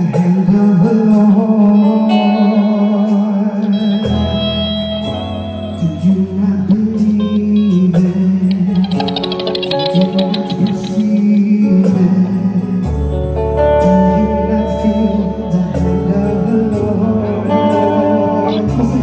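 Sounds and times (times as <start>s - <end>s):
bass line: 0.0s - 19.0s
live gospel band music: 0.0s - 19.0s.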